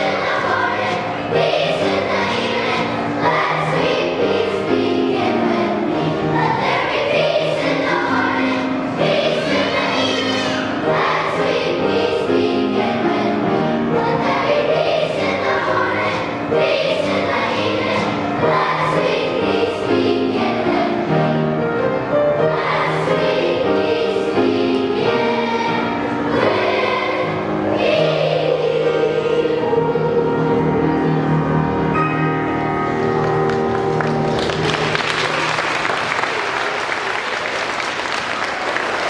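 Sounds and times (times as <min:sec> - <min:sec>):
children's choir singing: 0:00.0 - 0:33.2.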